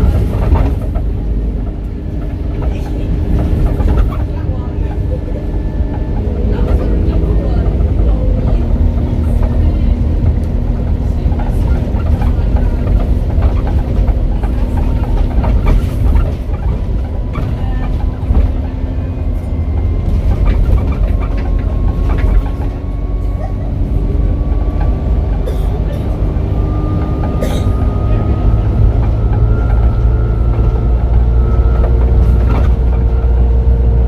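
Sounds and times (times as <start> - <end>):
bus engine rumble: 0.0 - 34.0.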